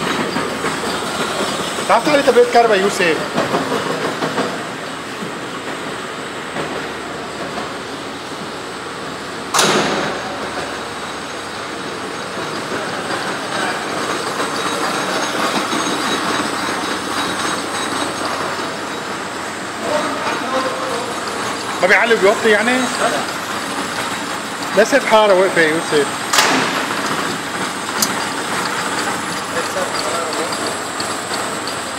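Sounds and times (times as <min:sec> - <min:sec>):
machine motors and rollers whirring: 0:00.0 - 0:31.9.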